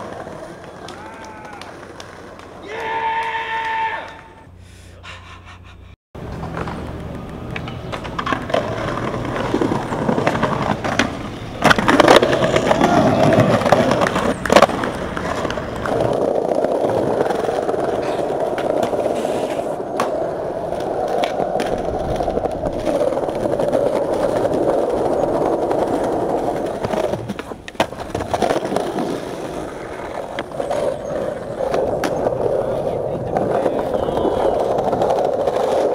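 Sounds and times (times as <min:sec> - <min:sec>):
skateboard wheels rolling on paving: 0:00.0 - 0:04.0, 0:06.2 - 0:35.9
skateboard clacks: 0:00.0 - 0:04.2, 0:06.2 - 0:35.9.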